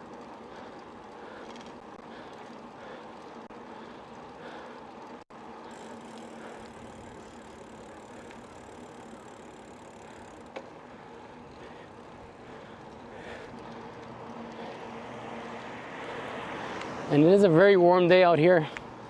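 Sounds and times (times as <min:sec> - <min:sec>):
bicycle rolling and wind noise: 0:00.0 - 0:19.0.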